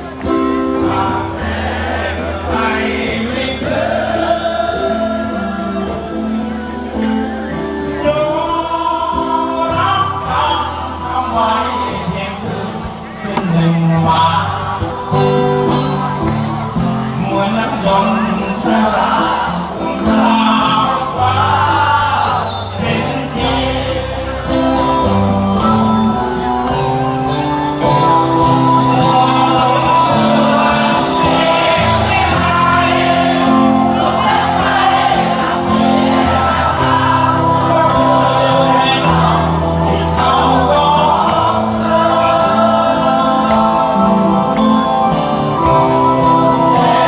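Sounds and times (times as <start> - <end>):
live rock band playing: 0.0 - 47.0
man singing: 0.0 - 47.0.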